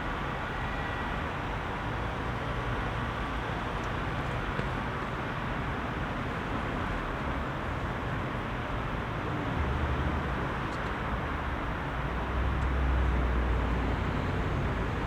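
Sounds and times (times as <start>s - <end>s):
car engines and tyre noise: 0.0s - 15.0s.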